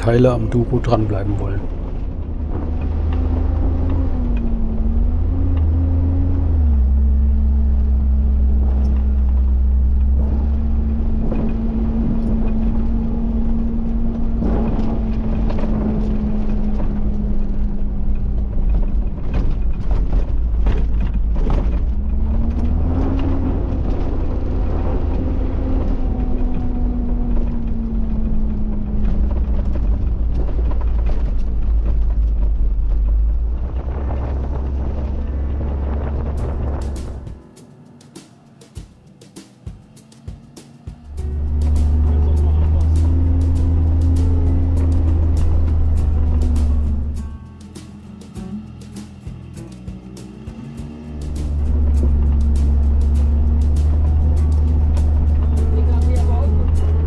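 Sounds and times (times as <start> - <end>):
cab knocking and rattling: 0.0 - 57.0
truck diesel engine droning: 0.0 - 57.0.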